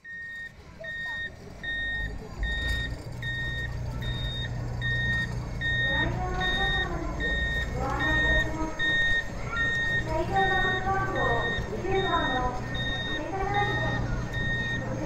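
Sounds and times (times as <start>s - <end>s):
low drive hum: 0.0s - 15.0s
repeating warning beep: 0.0s - 15.0s
voices: 0.0s - 15.0s.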